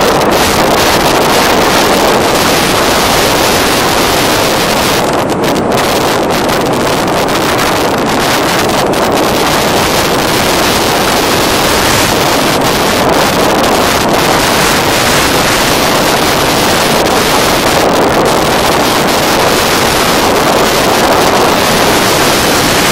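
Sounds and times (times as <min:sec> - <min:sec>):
road noise: 0:00.0 - 0:22.9
wind rushing over microphone: 0:00.0 - 0:22.9.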